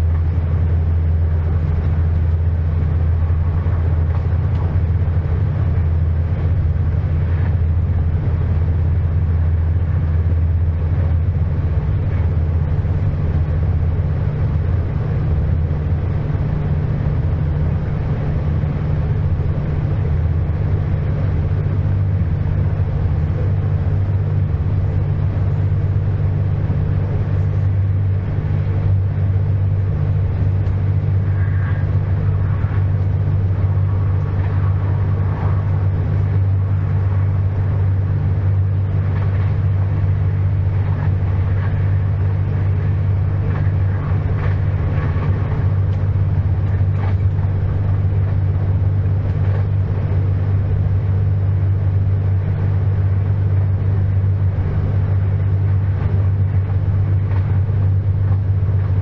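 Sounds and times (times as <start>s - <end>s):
passenger train running: 0.0s - 59.0s.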